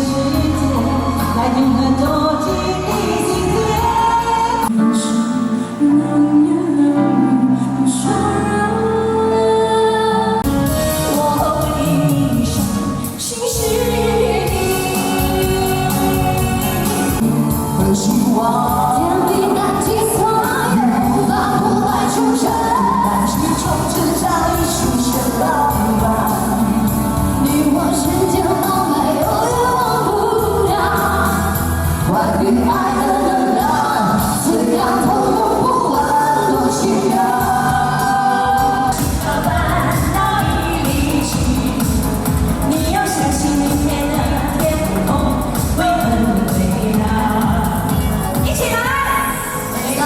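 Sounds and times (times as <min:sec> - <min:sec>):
pop backing track with bass: 0:00.0 - 0:50.0.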